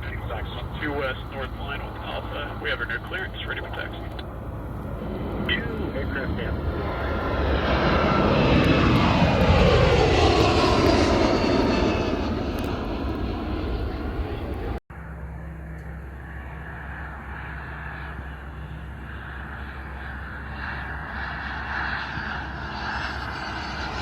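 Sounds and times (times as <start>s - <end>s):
aircraft engine hum: 0.0s - 24.0s
aircraft passing by: 0.0s - 24.0s.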